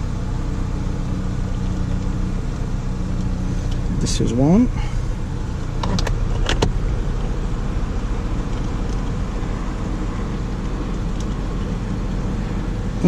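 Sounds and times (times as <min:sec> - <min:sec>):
vehicle humming: 0:00.0 - 0:13.0.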